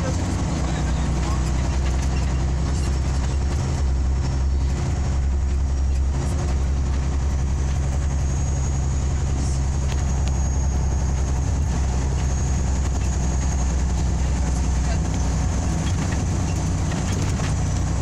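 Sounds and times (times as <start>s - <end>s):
bus engine drone: 0.0s - 18.0s
road and tyre rumble: 0.0s - 18.0s.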